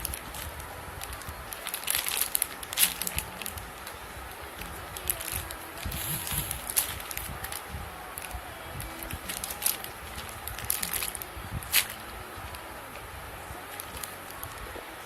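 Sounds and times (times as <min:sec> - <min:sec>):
plastic crinkling and crackling: 0:00.0 - 0:15.0.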